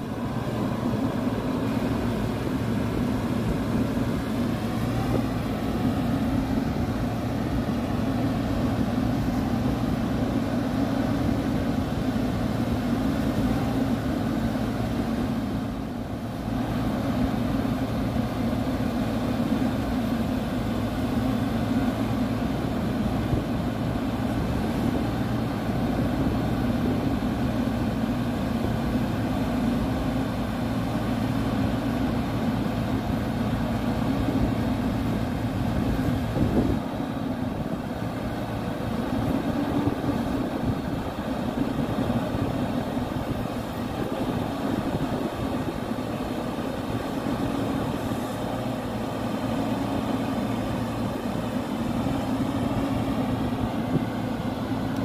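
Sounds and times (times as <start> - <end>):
engine running under load: 0.0 - 55.0.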